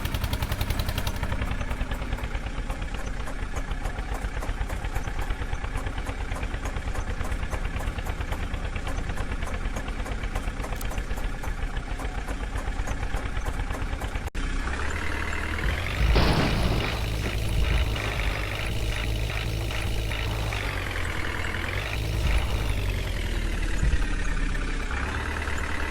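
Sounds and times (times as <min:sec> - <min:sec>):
diesel engine idling and revving: 0:00.0 - 0:25.9.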